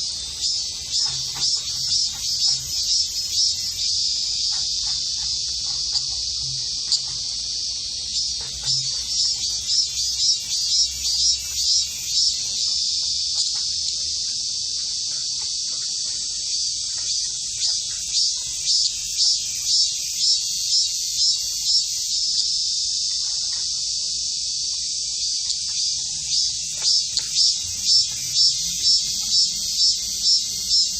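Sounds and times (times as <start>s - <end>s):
cicada buzzing: 0.0s - 30.9s.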